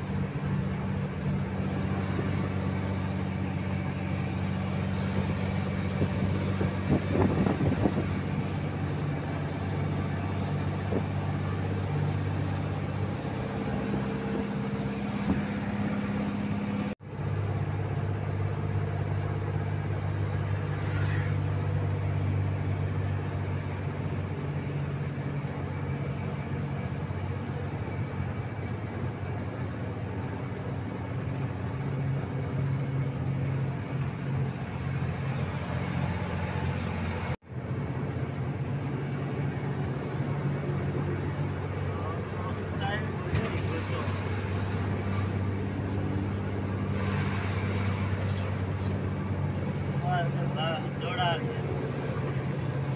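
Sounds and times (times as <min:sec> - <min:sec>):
road and tyre noise: 0:00.0 - 0:52.9
truck engine drone: 0:00.0 - 0:52.9.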